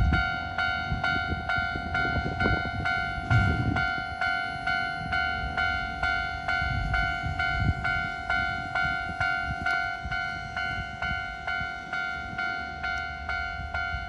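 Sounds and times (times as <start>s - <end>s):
level crossing warning bell ringing: 0.0s - 14.0s.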